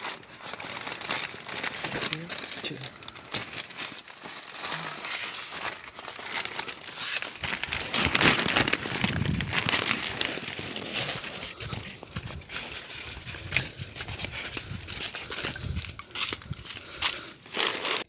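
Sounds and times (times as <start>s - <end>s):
paper bags rustling and crinkling: 0.0s - 18.0s.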